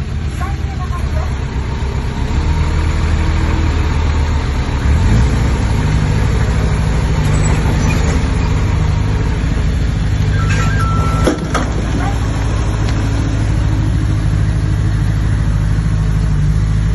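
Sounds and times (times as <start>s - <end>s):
bulldozer diesel engine running: 0.0s - 16.9s.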